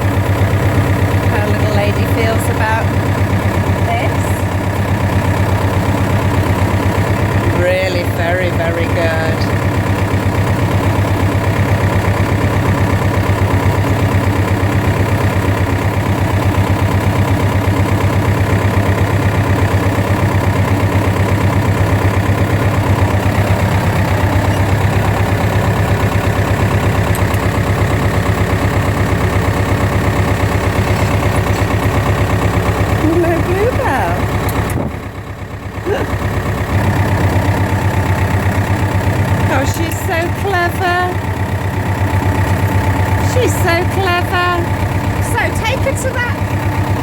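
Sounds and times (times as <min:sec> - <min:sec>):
tractor diesel engine chugging: 0:00.0 - 0:47.0.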